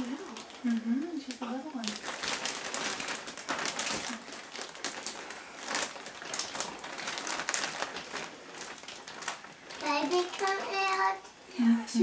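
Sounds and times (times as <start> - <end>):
plastic liner crinkling and rustling: 0.0 - 11.4.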